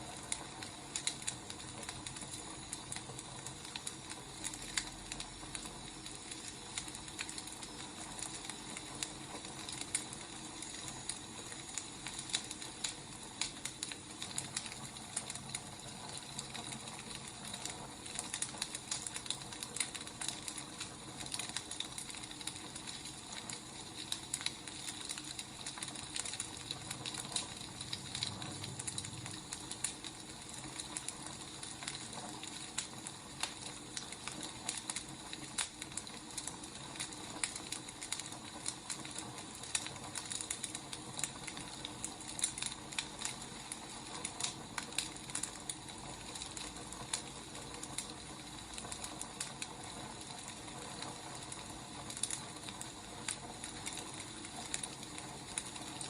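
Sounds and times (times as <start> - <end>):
fire hissing softly: 0.0 - 56.0
wood fire crackling: 0.0 - 56.0.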